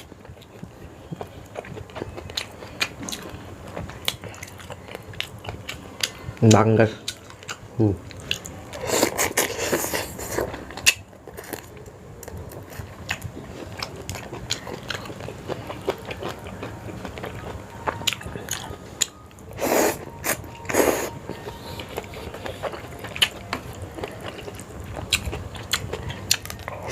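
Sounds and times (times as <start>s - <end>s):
person chewing noodles: 0.0s - 26.9s.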